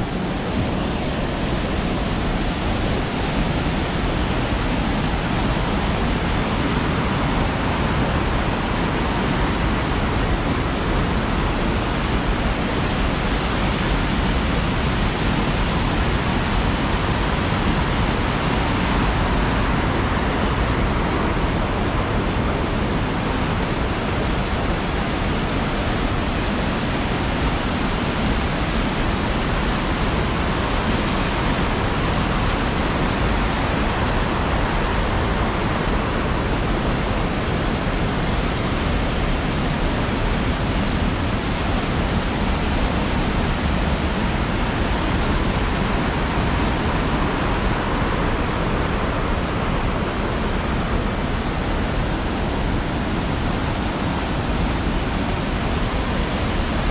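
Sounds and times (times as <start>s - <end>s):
white water rushing: 0.0s - 56.9s.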